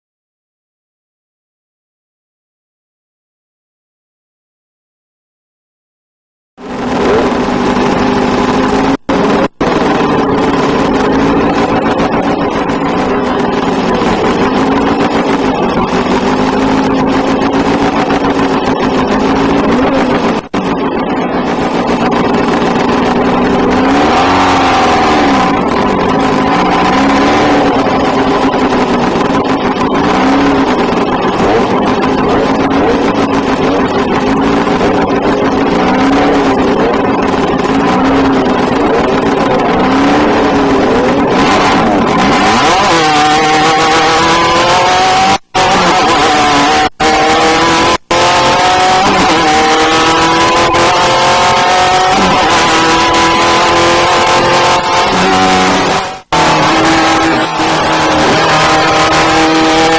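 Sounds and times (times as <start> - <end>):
race vehicle engine revving: 6.6 - 59.9.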